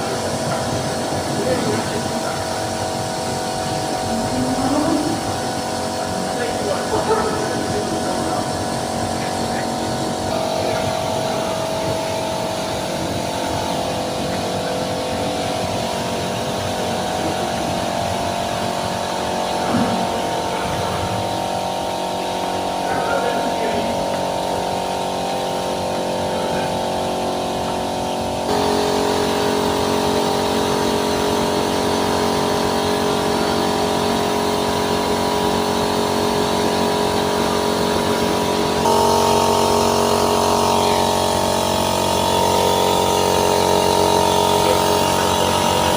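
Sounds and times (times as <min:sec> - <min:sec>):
car wash machine humming: 0:00.0 - 0:45.9.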